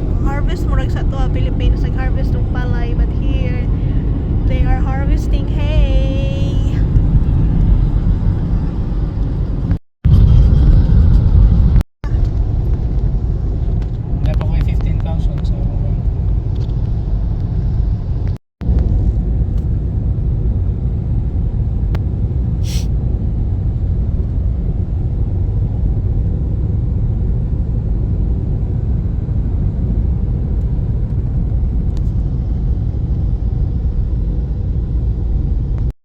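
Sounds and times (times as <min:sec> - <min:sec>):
steady low rumble: 0:00.0 - 0:35.9.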